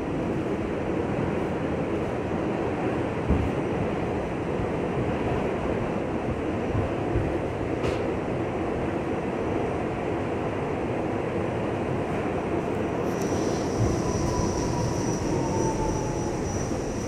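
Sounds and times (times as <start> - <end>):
subway wheels rumbling on rail: 0.0 - 17.0.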